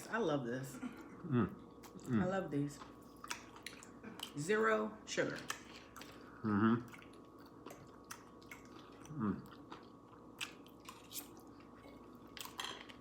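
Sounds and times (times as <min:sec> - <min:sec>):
chewing with crunches: 0:01.0 - 0:04.4, 0:05.3 - 0:13.0.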